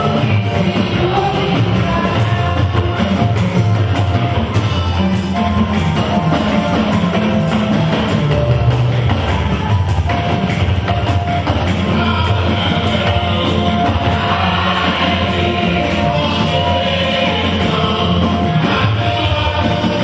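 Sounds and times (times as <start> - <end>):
voices singing: 0.0 - 8.0, 11.3 - 20.0
band music with bass and drums: 0.0 - 20.0.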